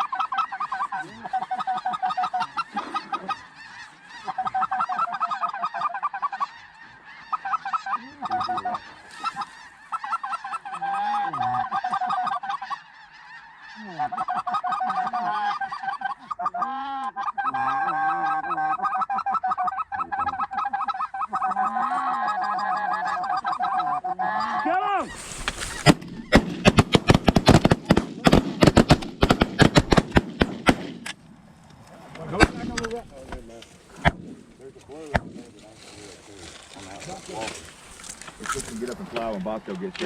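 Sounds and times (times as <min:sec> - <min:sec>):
geese honking: 0:00.0 - 0:40.0.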